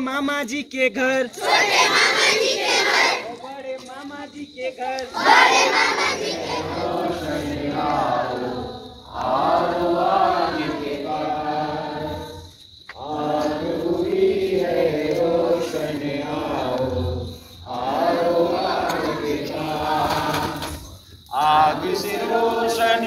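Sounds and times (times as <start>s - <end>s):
children singing in unison: 1.4s - 3.4s, 5.0s - 12.4s, 13.0s - 23.0s.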